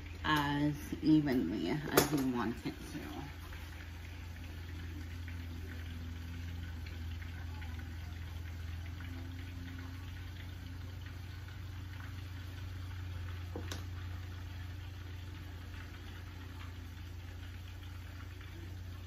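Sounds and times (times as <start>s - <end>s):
meatballs sizzling in oil: 0.0s - 19.0s.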